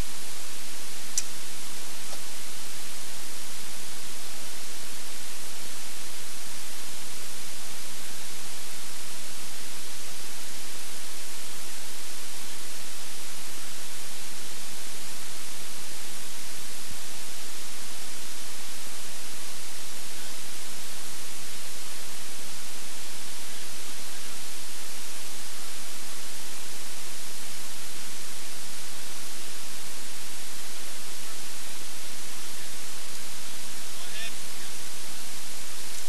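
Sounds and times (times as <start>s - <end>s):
faint electrical hum: 0.0s - 36.0s
static hiss: 0.0s - 36.0s.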